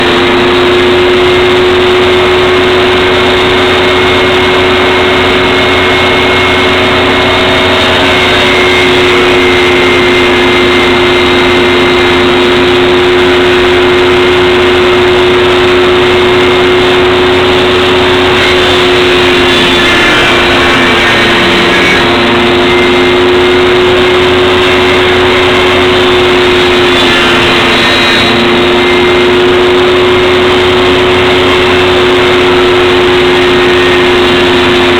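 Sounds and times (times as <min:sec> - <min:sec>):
table saw running: 0:00.0 - 0:34.9.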